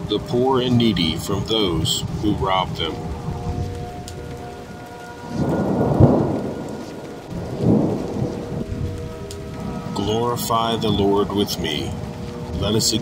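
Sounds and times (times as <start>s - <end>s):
steady rain: 0.0s - 13.0s
thunder rolling: 0.0s - 13.0s.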